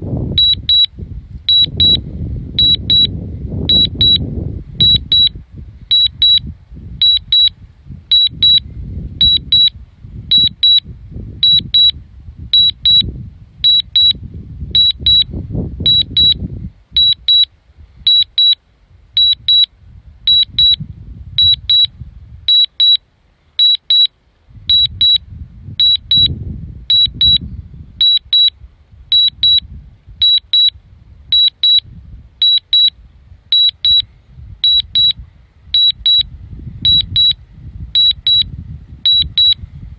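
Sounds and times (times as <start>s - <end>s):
wind buffeting microphone: 0.0s - 18.2s, 18.8s - 22.6s, 24.4s - 39.9s
high-pitched warning beeps: 0.4s - 0.9s, 1.5s - 2.0s, 2.6s - 8.6s, 9.2s - 10.8s, 11.4s - 17.5s, 18.1s - 18.6s, 19.2s - 19.7s, 20.3s - 20.8s, 21.4s - 21.9s, 22.5s - 23.0s, 23.6s - 25.2s, 25.8s - 29.6s, 30.2s - 39.6s.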